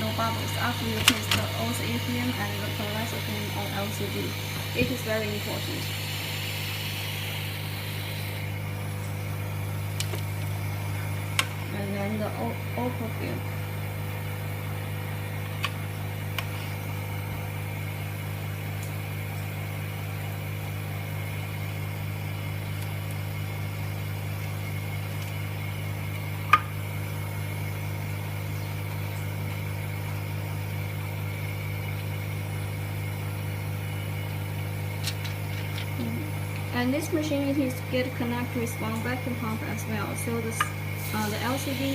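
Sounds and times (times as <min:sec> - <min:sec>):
vacuum pump humming: 0:00.0 - 0:41.9.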